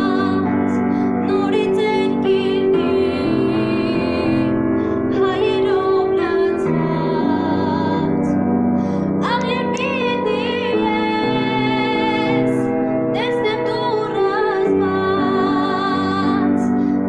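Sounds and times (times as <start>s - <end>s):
woman singing with vibrato: 0.0s - 8.4s, 9.2s - 17.0s
upright piano playing: 0.0s - 17.0s.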